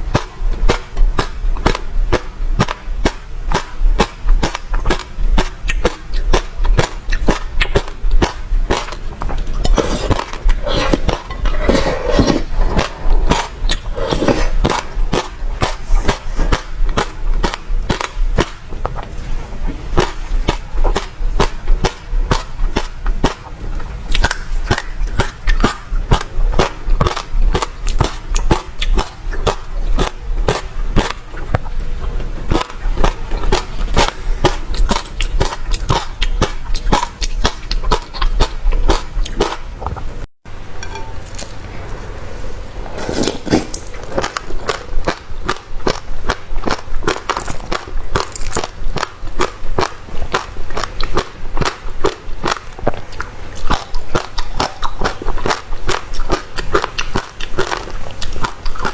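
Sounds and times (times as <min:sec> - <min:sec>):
chewing crunchy seeds: 0:00.0 - 0:40.1, 0:40.9 - 0:58.9.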